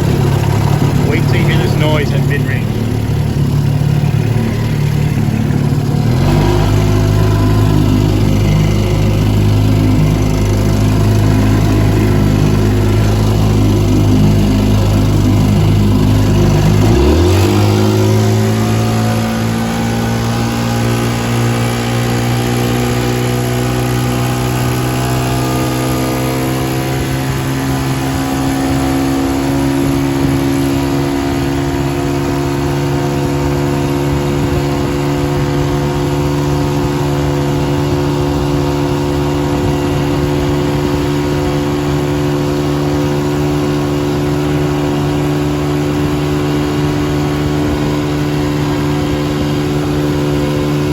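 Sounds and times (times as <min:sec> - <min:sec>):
outboard motor revving: 0:00.0 - 0:50.9.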